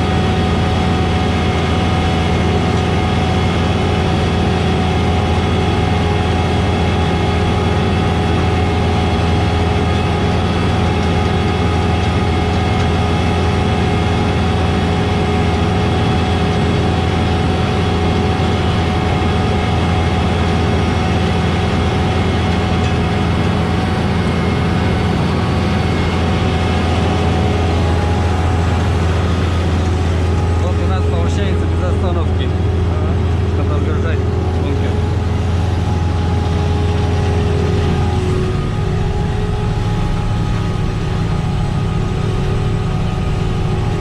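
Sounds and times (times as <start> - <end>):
diesel engine drone: 0.0 - 44.0
mechanical whine: 0.0 - 44.0.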